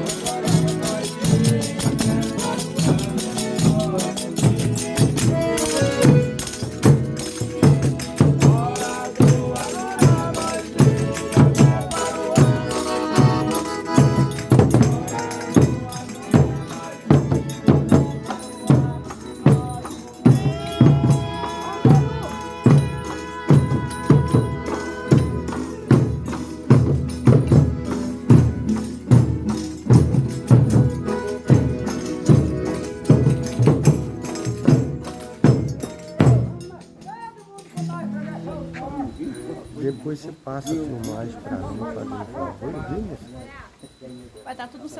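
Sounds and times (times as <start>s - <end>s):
tambourine: 0.0s - 38.1s
drum beating steadily: 0.0s - 41.8s
held melody: 0.0s - 44.9s.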